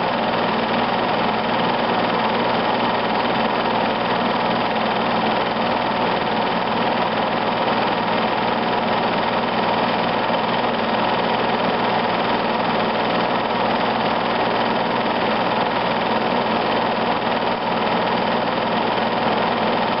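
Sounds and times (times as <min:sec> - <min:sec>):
film projector whirring: 0:00.0 - 0:20.0.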